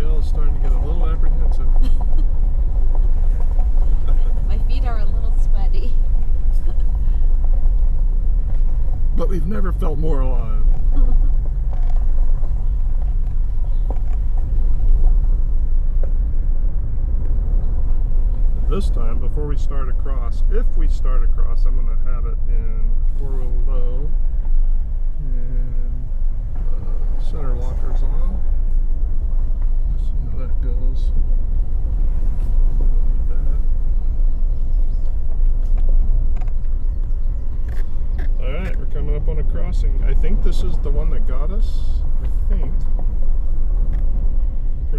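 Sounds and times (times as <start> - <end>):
vehicle driving low rumble: 0.0 - 44.9.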